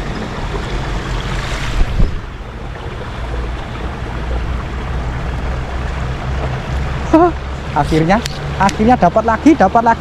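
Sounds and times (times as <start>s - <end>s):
wind on microphone: 0.0s - 8.8s
distant traffic: 0.0s - 10.0s
flowing water: 0.0s - 10.0s.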